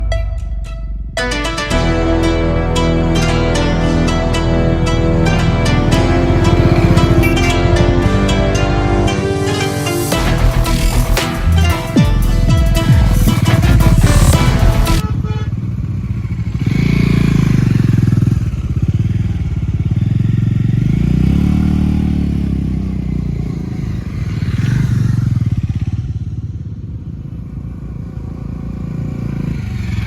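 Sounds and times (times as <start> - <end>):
motorcycle engine revving: 1.5 - 30.0.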